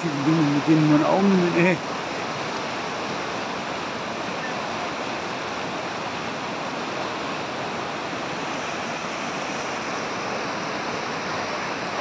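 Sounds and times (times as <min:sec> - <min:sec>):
flooded river rushing: 0:00.0 - 0:12.0.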